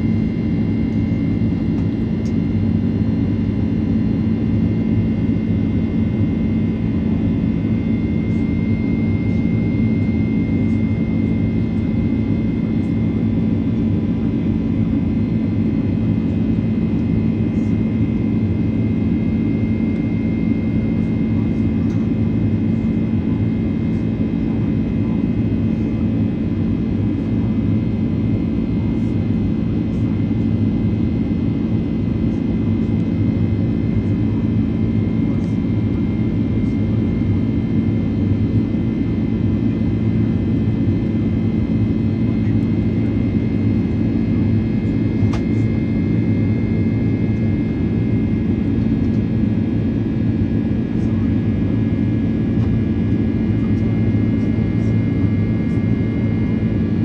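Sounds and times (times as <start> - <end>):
jet engine cabin rumble: 0.0 - 57.0.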